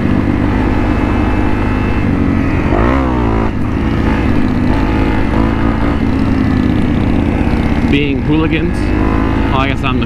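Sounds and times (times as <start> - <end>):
motorcycle engine revving: 0.0 - 10.0
motorcycle engines running: 0.0 - 10.0.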